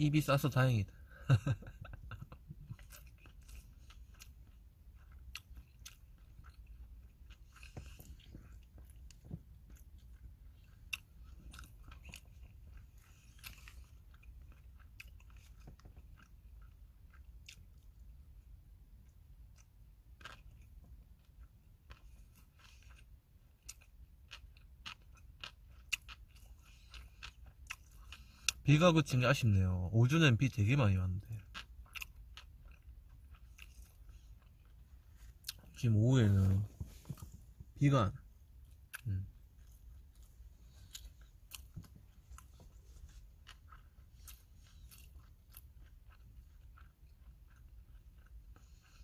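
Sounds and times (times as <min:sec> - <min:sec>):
person chewing food: 0:00.9 - 0:49.0.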